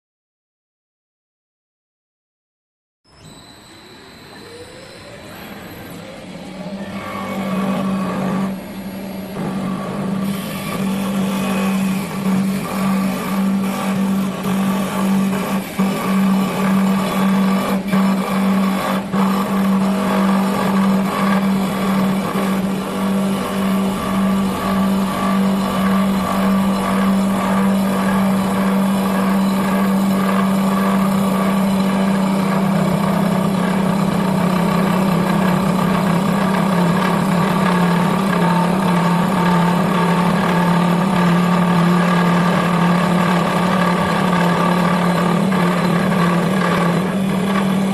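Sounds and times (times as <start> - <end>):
lathe motor humming: 4.0 - 47.9.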